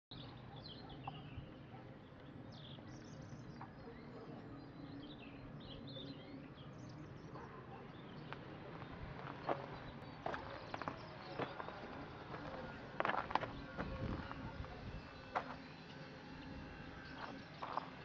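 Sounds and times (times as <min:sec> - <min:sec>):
birds chirping faintly: 0:00.1 - 0:18.0
outdoor background noise: 0:00.1 - 0:18.0.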